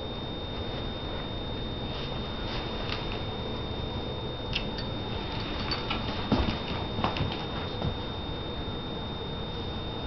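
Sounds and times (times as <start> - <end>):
thin high whine: 0.0 - 10.0.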